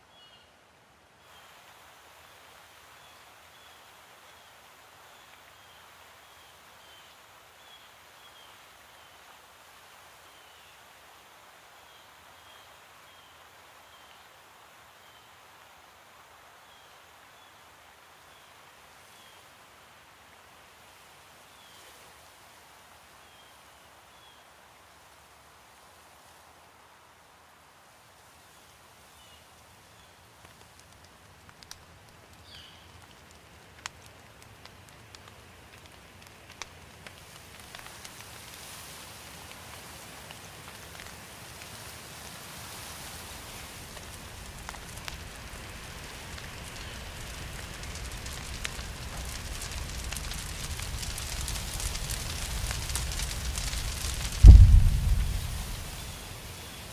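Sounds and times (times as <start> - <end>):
soft steady hiss: 0.0 - 56.9
rain drops: 0.9 - 56.9.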